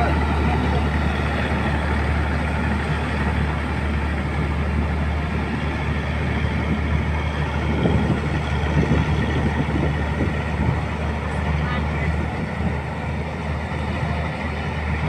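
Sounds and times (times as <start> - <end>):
combine harvester engine drone: 0.0 - 15.0
machinery running: 0.0 - 15.0.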